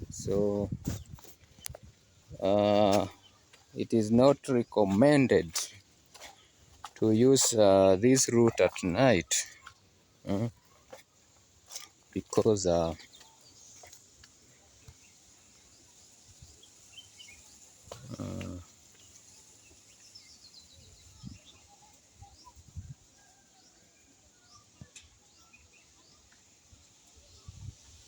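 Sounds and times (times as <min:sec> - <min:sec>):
birds chirping and calling: 0:00.1 - 0:22.9.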